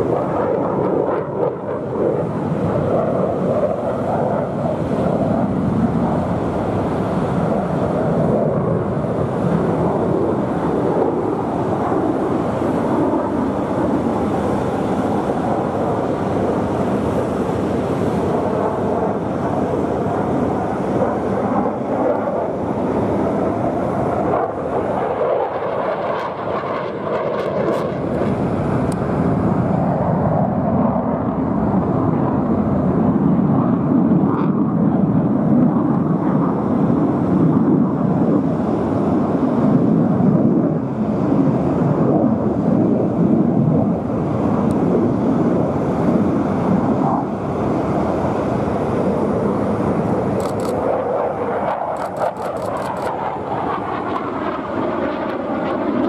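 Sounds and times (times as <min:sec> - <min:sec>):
fighter jet engine rumble: 0:00.0 - 0:56.0.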